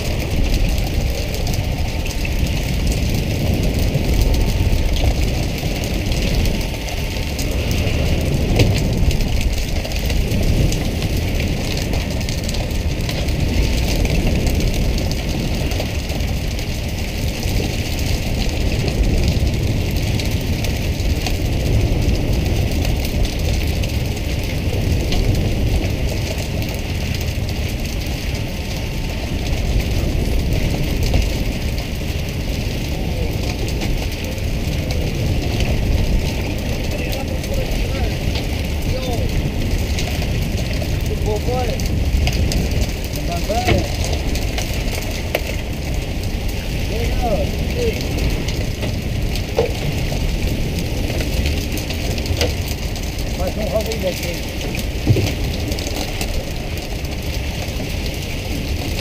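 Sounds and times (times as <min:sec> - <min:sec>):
boat engine rumble: 0:00.0 - 0:59.0.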